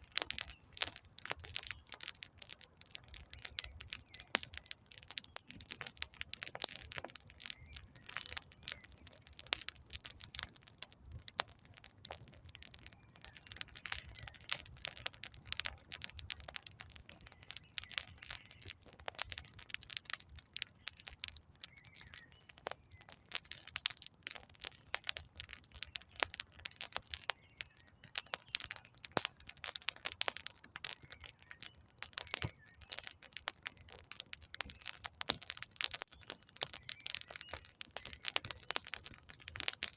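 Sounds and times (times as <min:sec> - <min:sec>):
campfire crackling: 0:00.0 - 0:39.9
low rumble of flame: 0:00.0 - 0:39.9.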